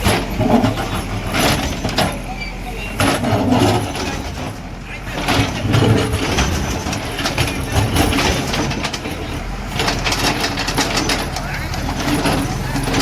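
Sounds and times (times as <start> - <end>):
diesel engine running: 0.0 - 13.0
metallic clanks and rattles: 0.0 - 13.0.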